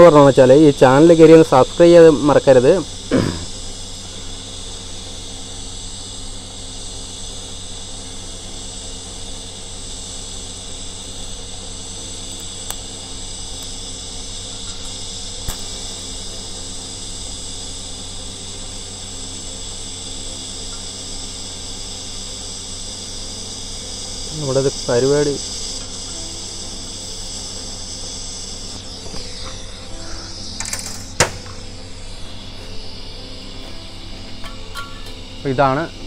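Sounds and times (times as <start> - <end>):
welding arc buzzing: 0.0 - 36.0.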